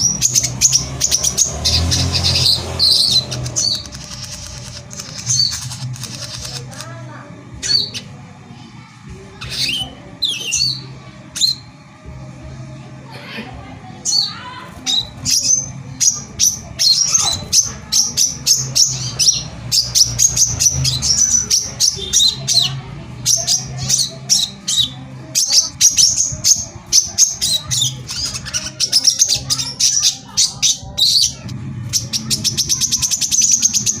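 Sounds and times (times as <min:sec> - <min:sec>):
songbird chirps and trills: 0:00.0 - 0:34.0.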